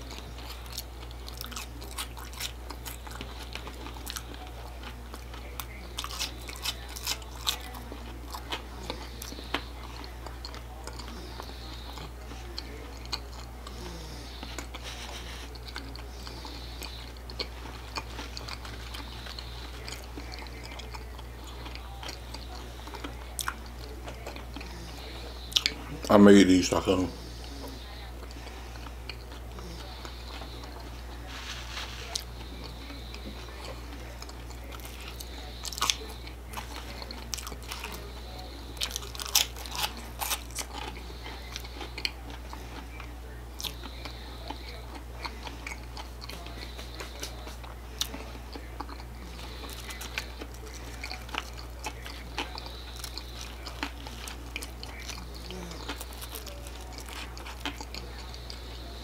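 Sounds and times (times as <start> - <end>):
low electrical hum: 0.0 - 59.0
person chewing crunchy food: 0.0 - 59.0.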